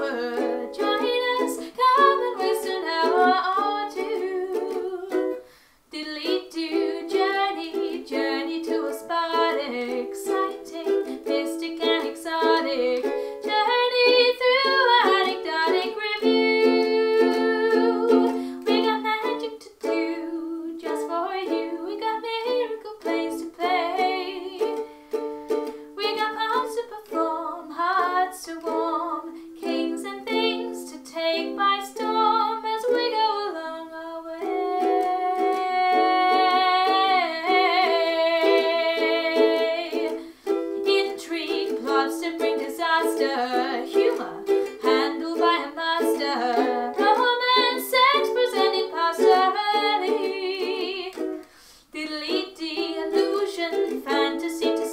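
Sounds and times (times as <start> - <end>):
ukulele plucking: 0.0 - 54.9
woman singing: 0.0 - 54.9.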